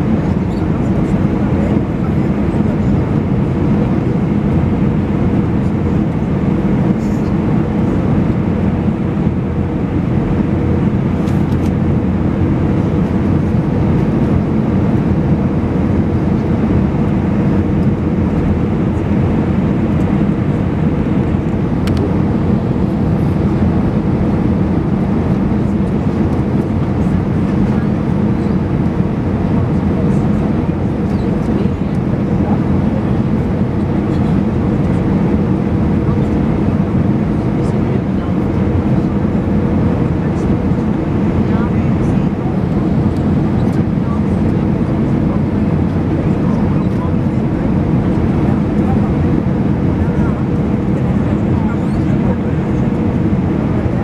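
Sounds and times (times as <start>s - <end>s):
airliner cabin engine drone: 0.0s - 54.0s.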